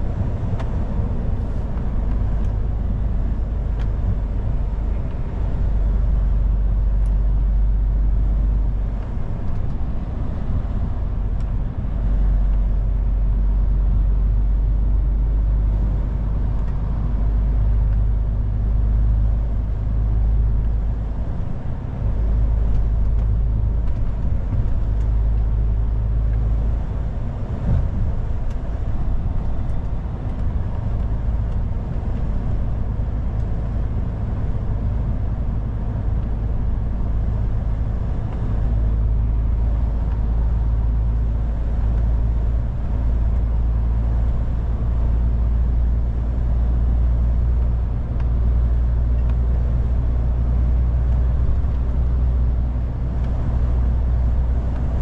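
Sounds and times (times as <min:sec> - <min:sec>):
truck engine and road drone: 0:00.0 - 0:55.0.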